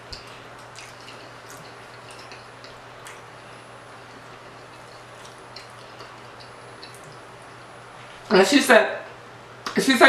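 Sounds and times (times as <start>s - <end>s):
person chewing food: 0.0s - 8.3s
low hum and hiss: 0.0s - 10.0s.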